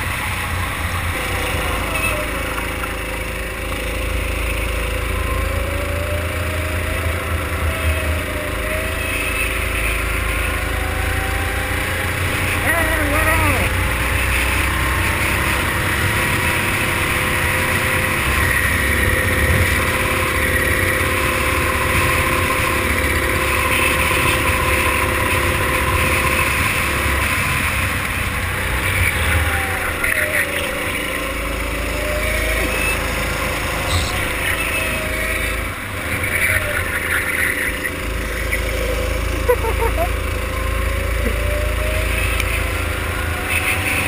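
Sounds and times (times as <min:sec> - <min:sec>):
rushing wind and road noise: 0:00.0 - 0:39.4
go-kart engine running: 0:00.0 - 0:44.0.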